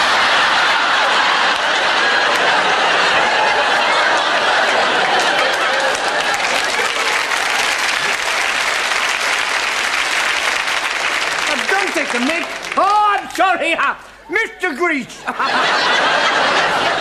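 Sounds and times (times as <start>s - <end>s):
audience laughing: 0.0s - 9.8s, 11.3s - 17.0s
audience clapping: 0.0s - 14.2s.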